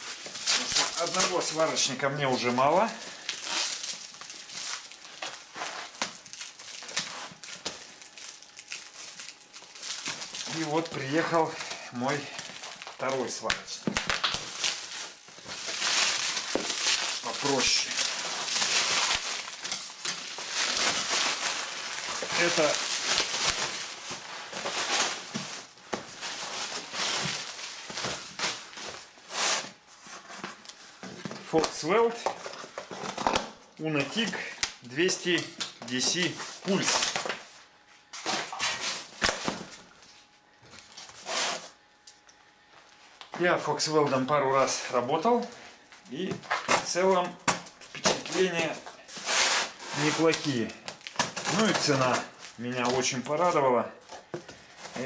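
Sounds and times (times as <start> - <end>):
plastic bag rustling: 0.0 - 33.4, 35.9 - 41.8, 44.6 - 55.0
plastic wrap crinkling and cracking: 0.0 - 37.5, 44.6 - 55.0.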